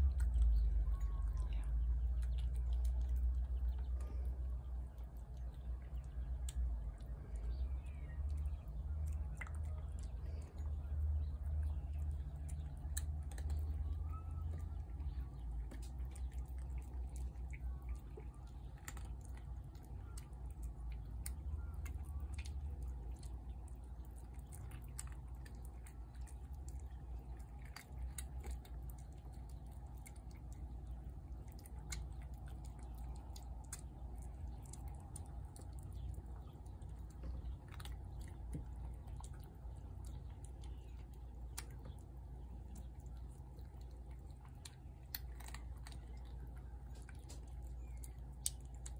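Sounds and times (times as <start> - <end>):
cat chewing crunches: 0.0 - 48.9
steady low rumble: 0.0 - 48.9.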